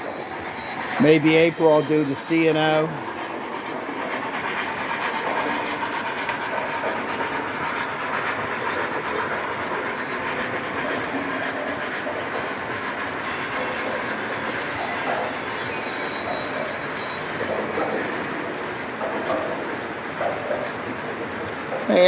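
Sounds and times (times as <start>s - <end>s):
faint rapid clicking: 0.0s - 22.0s
model train wheels rumbling on rails: 0.0s - 22.0s.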